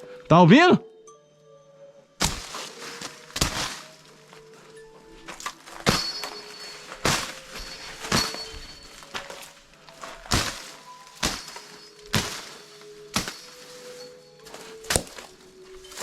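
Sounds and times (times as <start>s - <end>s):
faint steady background tones: 0.0s - 16.0s
dull thuds: 2.2s - 16.0s.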